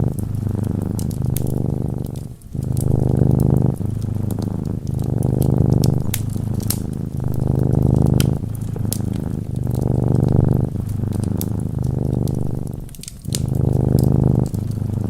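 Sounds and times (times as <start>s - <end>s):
cat purring: 0.0s - 15.0s
wood fire crackling: 0.0s - 15.0s.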